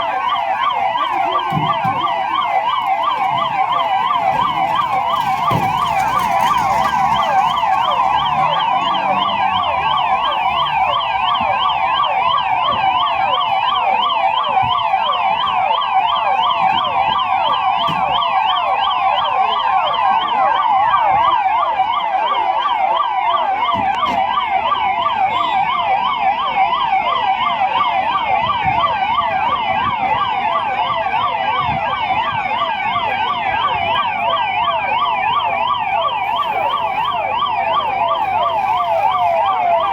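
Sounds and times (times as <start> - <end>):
ambulance siren warbling: 0.0 - 39.9.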